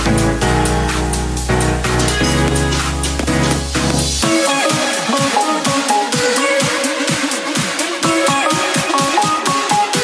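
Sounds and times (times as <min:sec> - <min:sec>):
electronic dance music: 0:01.2 - 0:10.0.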